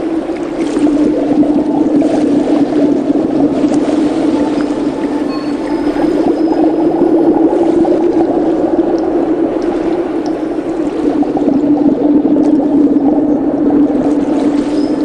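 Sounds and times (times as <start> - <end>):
underwater rushing and gurgling: 0.0 - 15.0.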